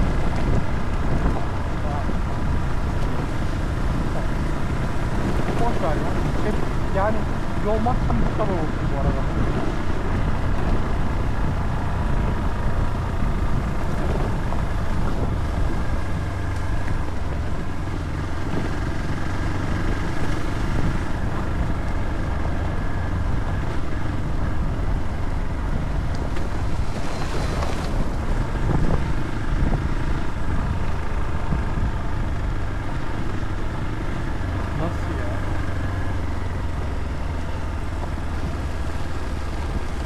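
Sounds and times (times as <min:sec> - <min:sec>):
motorcycle engine running: 0:00.0 - 0:40.0
wind rushing over microphone: 0:00.0 - 0:40.0.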